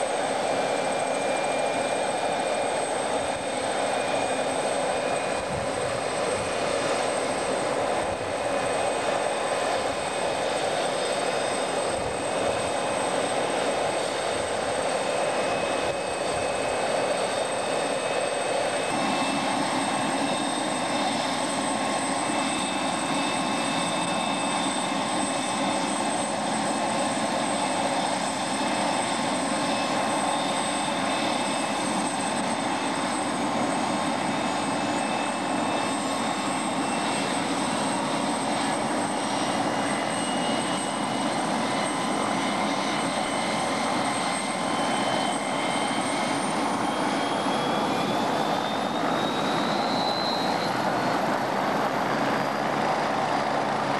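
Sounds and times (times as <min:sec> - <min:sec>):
helicopter turbine whine: 0:00.0 - 0:53.9.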